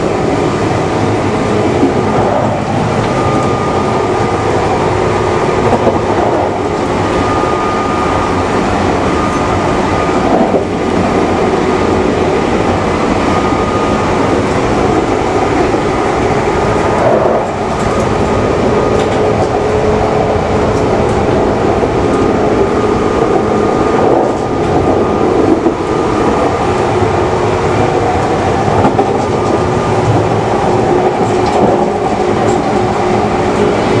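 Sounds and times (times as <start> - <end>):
faint whine: 0.0 - 34.0
train rumble: 0.0 - 34.0.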